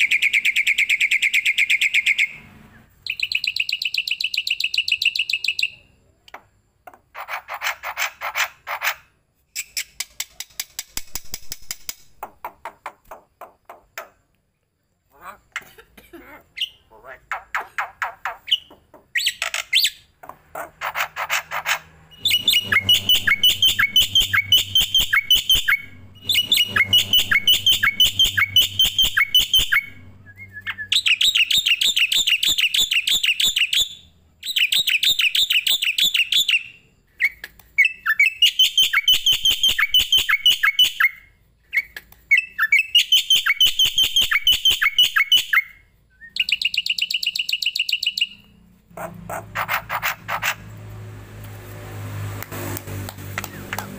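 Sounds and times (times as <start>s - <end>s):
songbird chirping: 0.0s - 50.7s.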